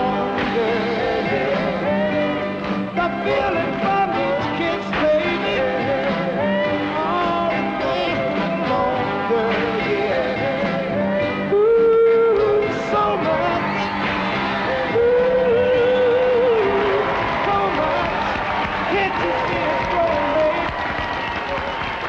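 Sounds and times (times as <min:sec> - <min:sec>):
soul song with singer and band: 0:00.0 - 0:21.3.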